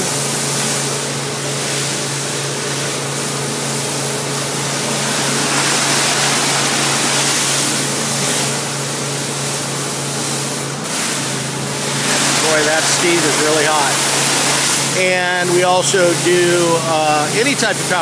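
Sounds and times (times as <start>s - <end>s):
low machine hum: 0.0s - 18.0s
pressure washer spray hissing: 0.0s - 18.0s.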